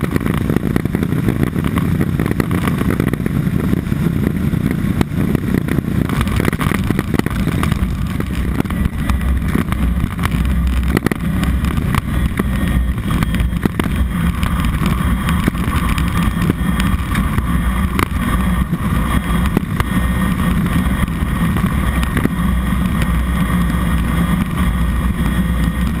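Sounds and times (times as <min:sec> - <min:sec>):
turboprop engine droning: 0:00.0 - 0:26.0.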